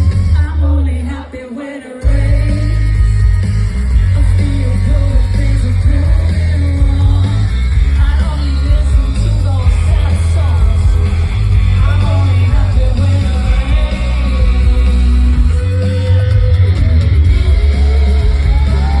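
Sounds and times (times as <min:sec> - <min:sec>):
heavy bass: 0:00.0 - 0:19.0
loud guitars: 0:00.0 - 0:19.0
singer: 0:00.0 - 0:19.0.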